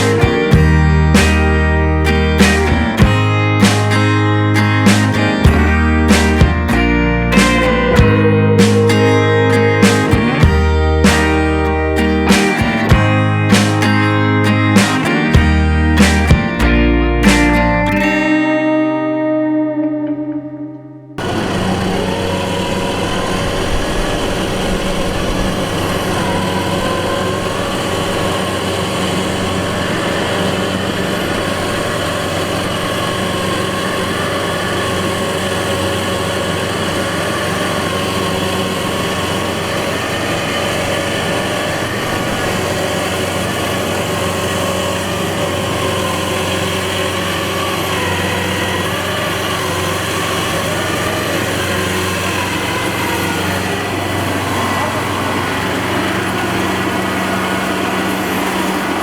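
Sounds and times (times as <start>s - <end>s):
harvesting machine engine running: 0.0s - 18.4s, 21.2s - 59.0s.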